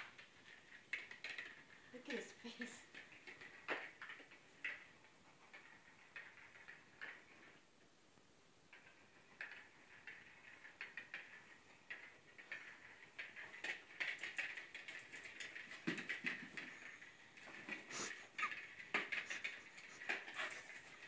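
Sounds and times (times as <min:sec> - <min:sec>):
plastic toy ball clicking and rattling: 0:00.0 - 0:07.6, 0:08.7 - 0:21.0.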